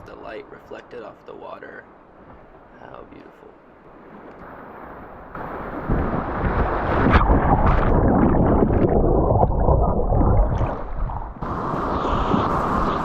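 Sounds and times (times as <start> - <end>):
wind rumble on microphone: 2.1 - 13.0.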